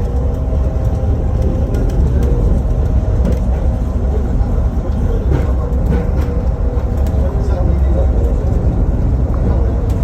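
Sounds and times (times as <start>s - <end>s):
tram running rumble: 0.0s - 10.0s.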